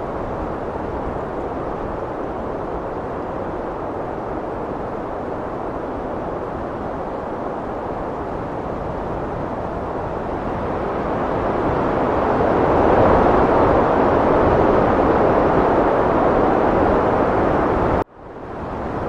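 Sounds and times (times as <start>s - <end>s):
heavy wind blowing: 0.0s - 19.0s.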